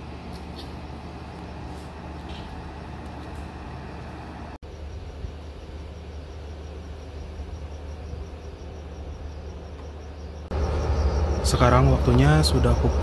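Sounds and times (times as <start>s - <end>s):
crickets chirping: 0.0s - 13.0s
diesel train idling hum: 0.0s - 13.0s.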